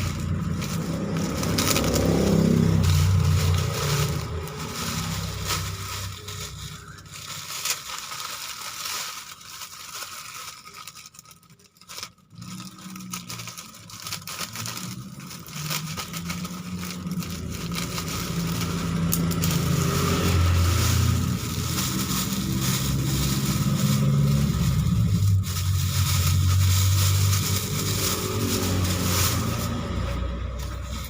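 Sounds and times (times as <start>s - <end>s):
plastic packaging crinkling and tearing: 0.0s - 31.0s.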